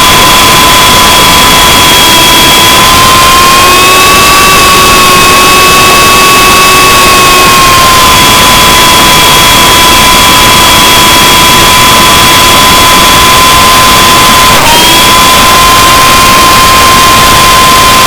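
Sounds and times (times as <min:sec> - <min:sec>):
helicopter motor whine: 0:00.0 - 0:18.0
rotor rushing noise: 0:00.0 - 0:18.0.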